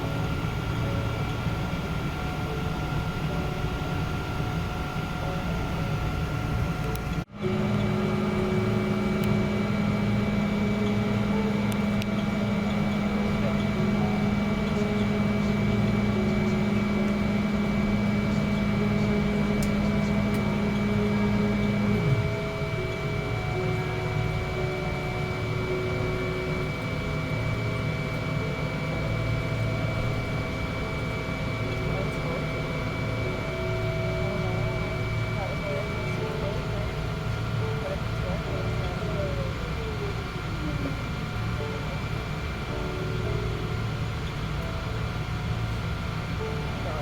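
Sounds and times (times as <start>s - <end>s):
airliner cabin rumble: 0.0s - 47.0s
constant high whine: 0.0s - 47.0s
mechanical drone and hum: 0.0s - 47.0s.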